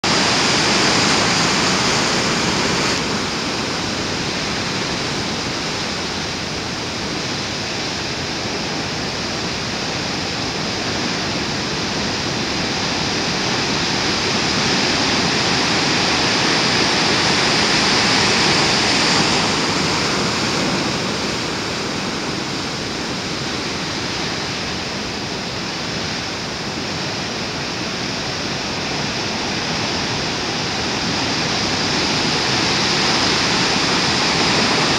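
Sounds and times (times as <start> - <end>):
ocean surf crashing on rocks: 0.0 - 34.9.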